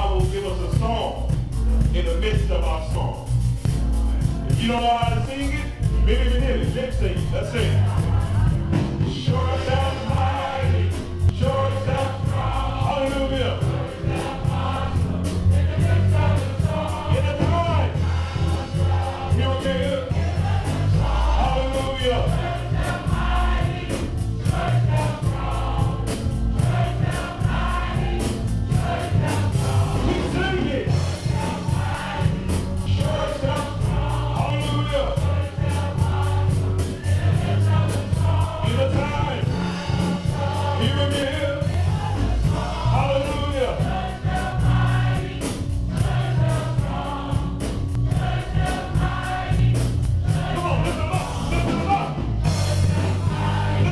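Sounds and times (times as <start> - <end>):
band with heavy bass: 0.0 - 53.9
congregation singing gospel: 0.0 - 53.9.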